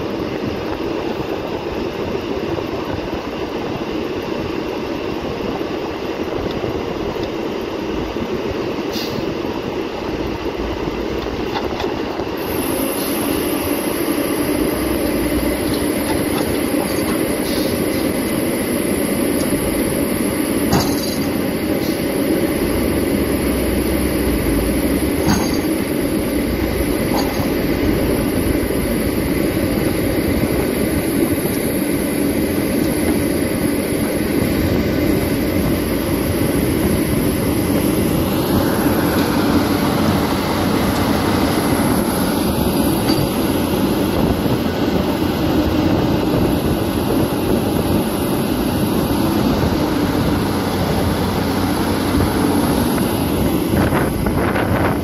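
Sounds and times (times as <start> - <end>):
excavator diesel engine rumbling: 0.0 - 55.0.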